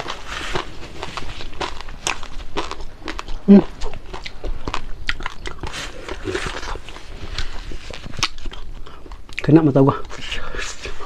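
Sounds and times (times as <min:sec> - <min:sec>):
chewing and crunching food: 0:00.0 - 0:11.0
wet mouth sounds: 0:00.0 - 0:11.0.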